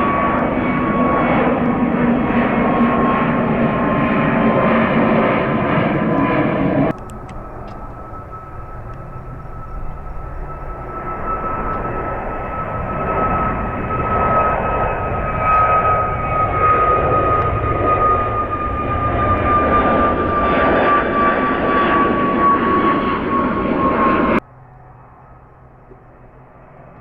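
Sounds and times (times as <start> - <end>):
jet airliner taking off: 0.0 - 27.0.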